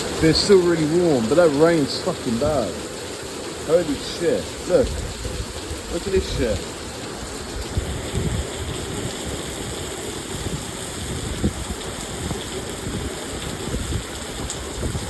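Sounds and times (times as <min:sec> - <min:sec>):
heavy rain pouring: 0:00.0 - 0:15.0
raindrops pattering on surfaces: 0:00.0 - 0:15.0.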